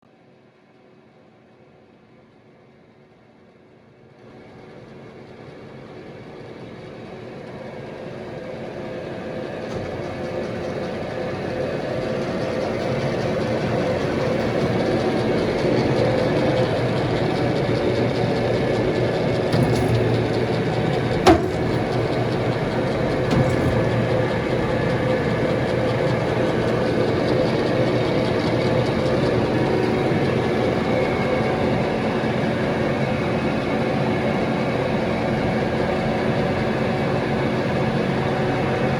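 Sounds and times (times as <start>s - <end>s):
lathe running with mechanical hum: 5.3s - 38.9s.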